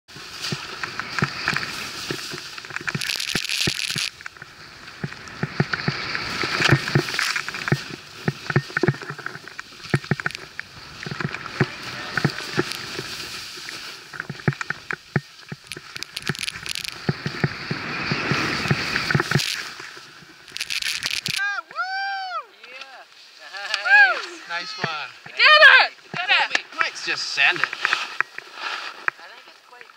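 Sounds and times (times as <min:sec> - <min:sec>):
skis swishing through snow: 0:00.1 - 0:08.8, 0:09.6 - 0:21.4, 0:26.2 - 0:29.8.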